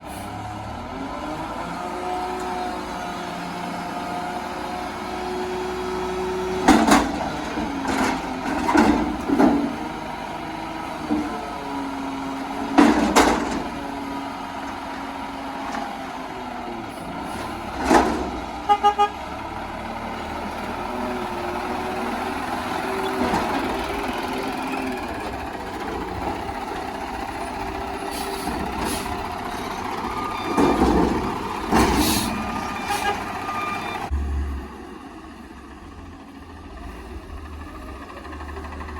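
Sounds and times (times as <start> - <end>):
garbage truck engine running: 0.1 - 38.9.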